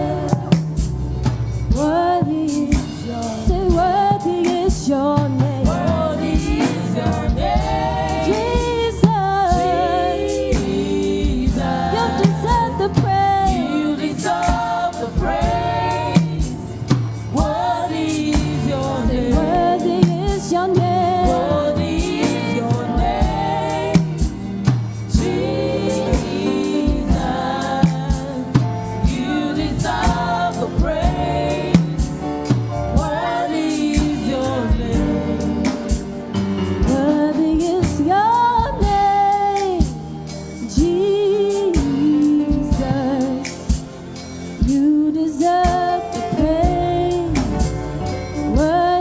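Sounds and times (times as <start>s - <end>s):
drums keeping a steady beat: 0.0s - 49.0s
praise team singing: 0.0s - 49.0s.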